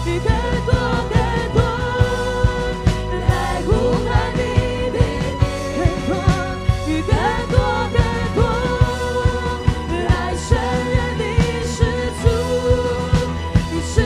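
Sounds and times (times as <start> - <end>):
band playing steady beat: 0.0 - 14.0
keyboard chords: 0.0 - 14.0
person singing: 0.0 - 14.0.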